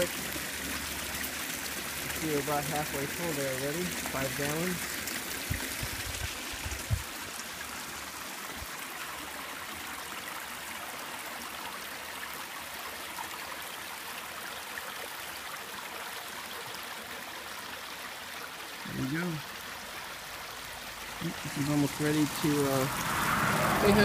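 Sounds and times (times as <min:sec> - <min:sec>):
water trickling over rocks: 0:00.0 - 0:24.0.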